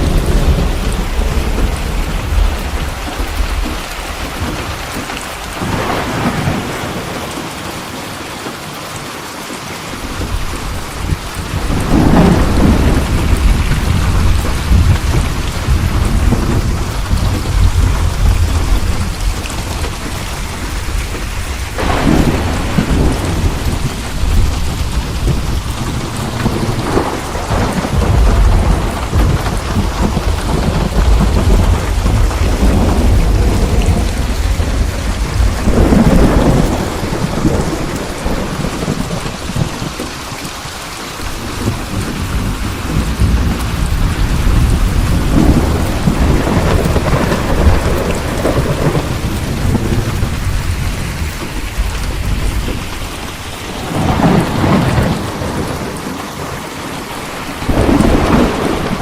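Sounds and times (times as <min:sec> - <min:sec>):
rolling thunder: 0:00.0 - 0:07.6, 0:10.0 - 0:40.6, 0:41.2 - 0:59.0
heavy rain: 0:00.0 - 0:59.0.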